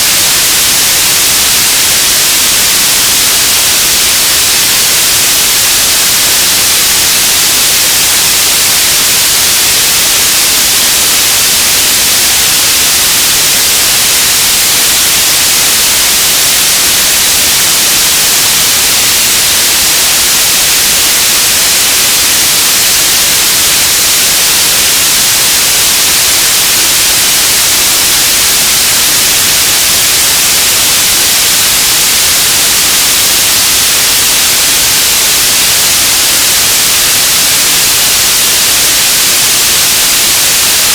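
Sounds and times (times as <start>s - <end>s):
radio static hiss: 0.0s - 40.9s.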